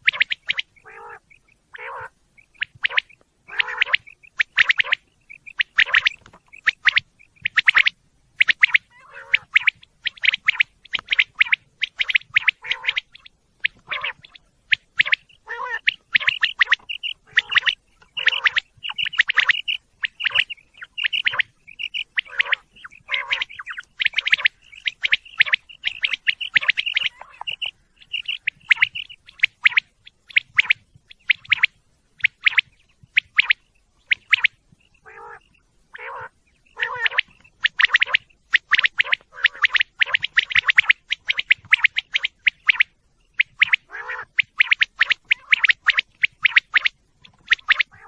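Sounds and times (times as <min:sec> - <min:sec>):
quail calling: 0:00.0 - 0:48.0.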